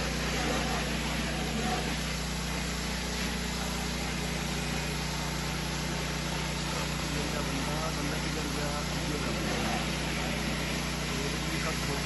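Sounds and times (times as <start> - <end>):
pressure washer engine running: 0.0 - 12.0.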